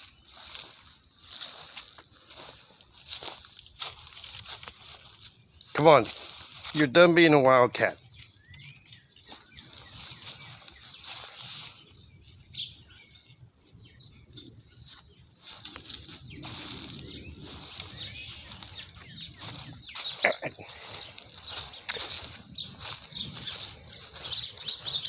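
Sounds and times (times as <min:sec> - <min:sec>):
steady rustling noise: 0:00.0 - 0:25.0
birds chirping: 0:04.8 - 0:25.0.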